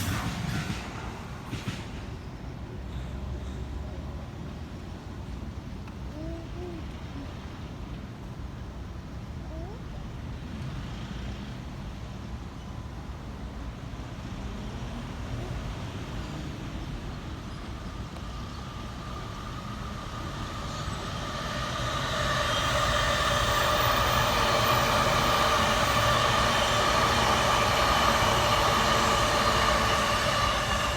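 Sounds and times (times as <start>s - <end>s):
electric train passing: 0.0s - 5.8s, 10.1s - 30.9s.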